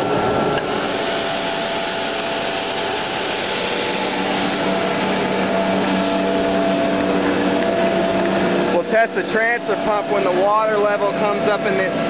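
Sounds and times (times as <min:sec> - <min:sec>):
blower rushing air: 0:00.0 - 0:12.0
rising hum: 0:00.0 - 0:12.0.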